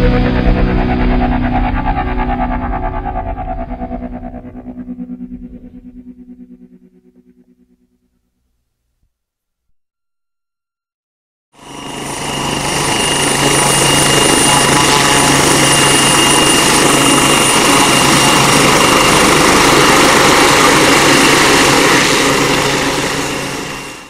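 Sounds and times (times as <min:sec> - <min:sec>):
helicopter turbine whine: 0:00.0 - 0:07.9, 0:11.6 - 0:24.0.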